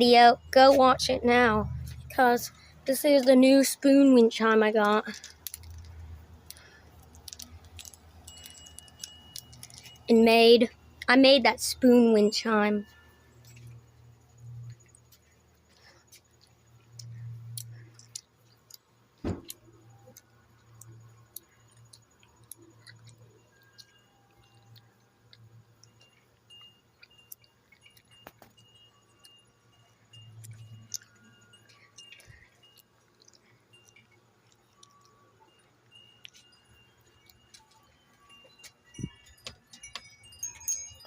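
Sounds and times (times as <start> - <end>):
metal wind chimes clinking: 0.0 - 18.9, 19.6 - 41.0.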